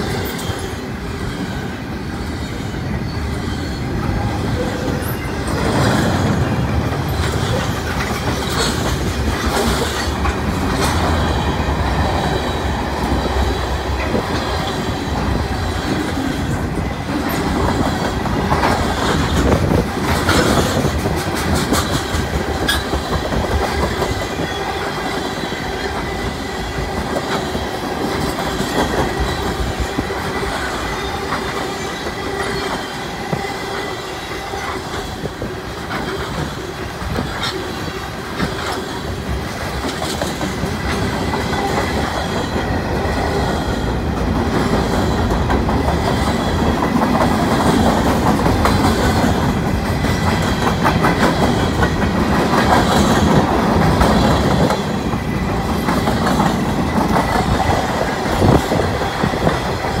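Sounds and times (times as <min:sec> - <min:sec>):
train wheels rumbling on rails: 0:00.0 - 1:00.0
wheels clacking over rail joints: 0:00.0 - 1:00.0.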